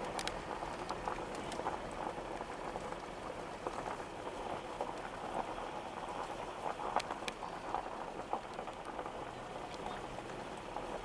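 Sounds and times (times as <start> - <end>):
road noise hiss: 0.0 - 11.0.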